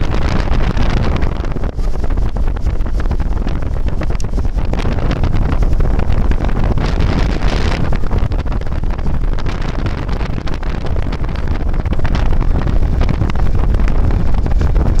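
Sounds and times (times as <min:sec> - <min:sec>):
diesel engine rumble: 0:00.0 - 0:15.0
wind buffeting microphone: 0:00.0 - 0:15.0.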